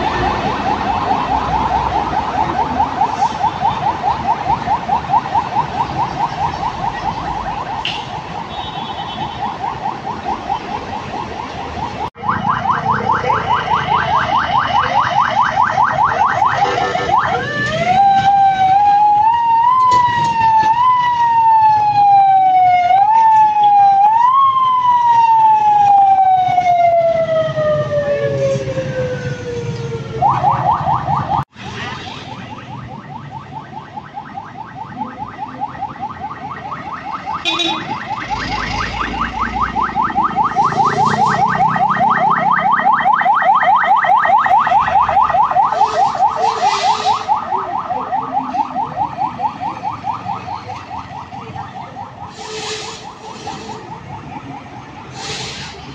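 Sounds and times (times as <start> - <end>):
ambulance siren warbling: 0.0 - 55.9
ambulance siren whooping: 0.0 - 55.9.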